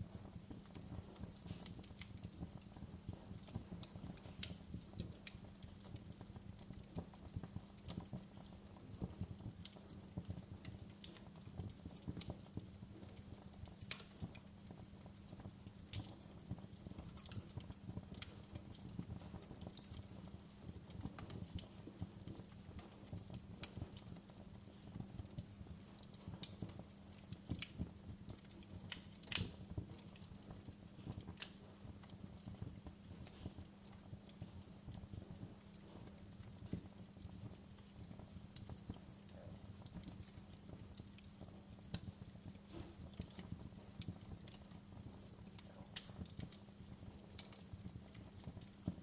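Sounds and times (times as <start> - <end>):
fire crackling in a fireplace: 0.0 - 49.0.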